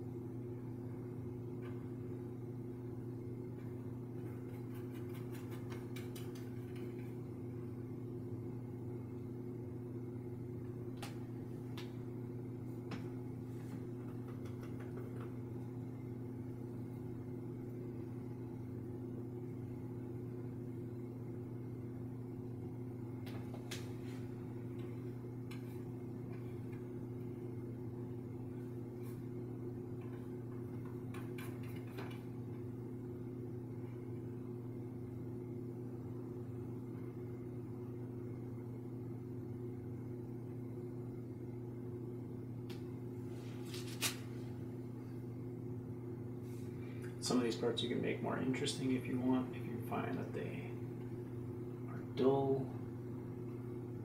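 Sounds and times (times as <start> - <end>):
low electrical fan hum: 0.0 - 54.0.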